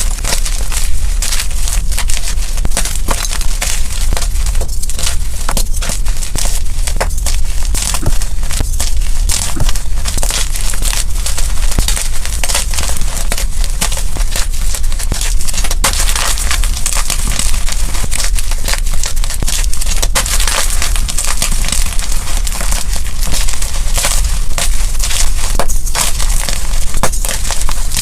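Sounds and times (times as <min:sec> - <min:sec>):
gym chalk being crushed: 0:00.0 - 0:28.0.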